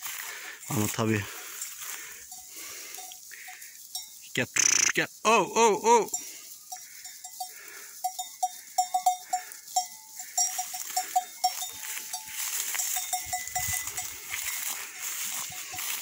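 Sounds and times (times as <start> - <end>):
animal bells clinking: 0.0 - 16.0.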